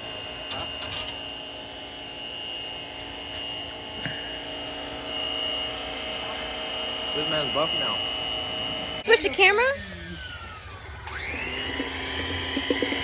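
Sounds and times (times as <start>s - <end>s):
machine whine: 0.0s - 13.0s.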